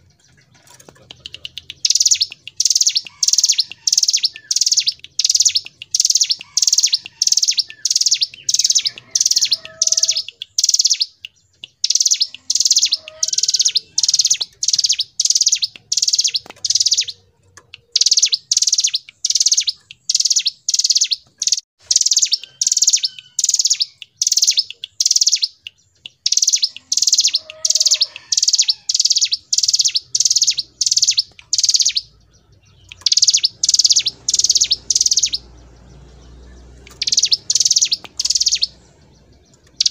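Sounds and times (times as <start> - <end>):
bird singing rapid high notes: 0.0 - 39.9.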